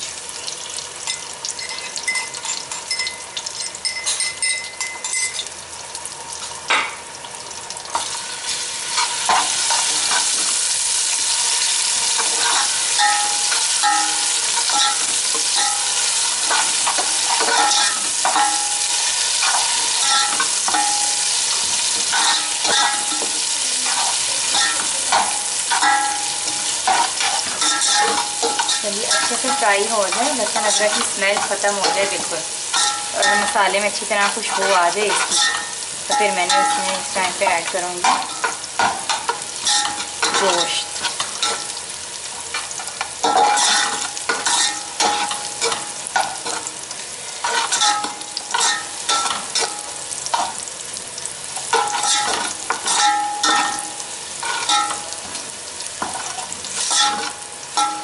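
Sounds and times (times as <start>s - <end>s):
paste sizzling in hot oil: 4.7s - 58.0s.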